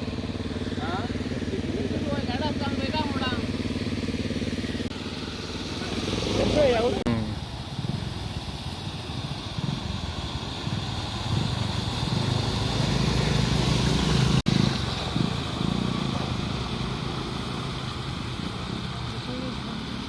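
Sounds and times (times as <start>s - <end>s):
car engine humming: 0.0s - 20.0s
tyre and road noise: 0.0s - 20.0s.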